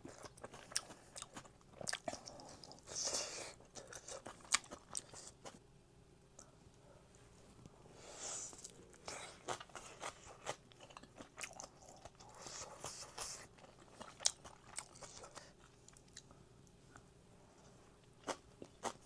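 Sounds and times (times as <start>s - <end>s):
chewing and crunching food: 0.0s - 5.6s, 8.4s - 17.1s, 18.0s - 19.0s.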